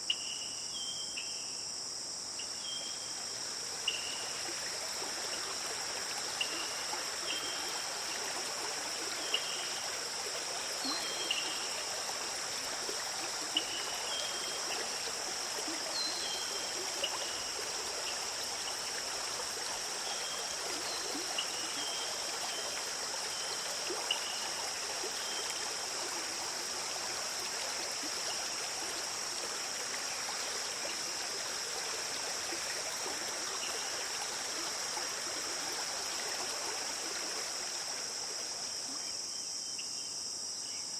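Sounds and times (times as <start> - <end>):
high insect drone: 0.0 - 40.9
stream flowing and trickling: 0.0 - 40.9.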